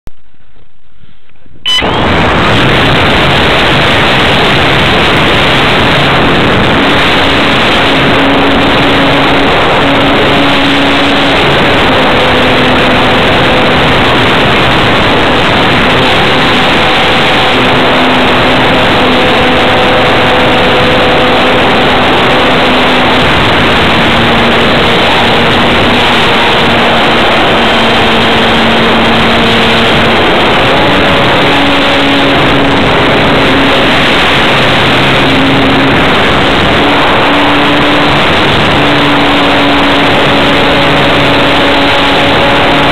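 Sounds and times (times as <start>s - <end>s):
wind rush on microphone: 0.0s - 42.9s.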